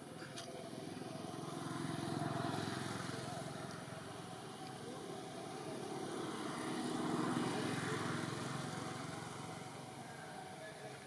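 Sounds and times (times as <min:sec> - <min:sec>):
motor engine passing: 0:00.0 - 0:10.9.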